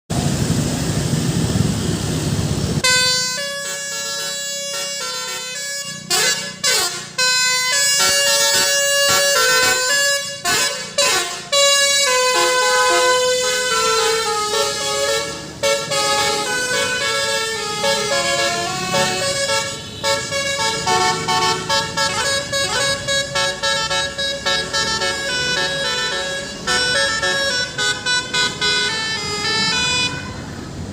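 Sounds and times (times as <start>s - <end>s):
multi-tone bus horn melody: 2.8s - 30.9s.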